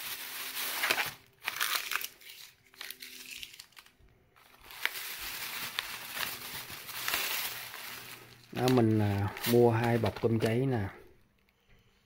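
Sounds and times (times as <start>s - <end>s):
plastic bag rustling and crinkling: 0.0s - 10.9s.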